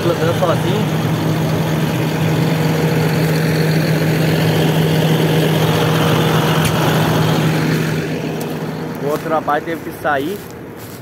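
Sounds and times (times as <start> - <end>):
tractor diesel engine humming: 0.0 - 11.0.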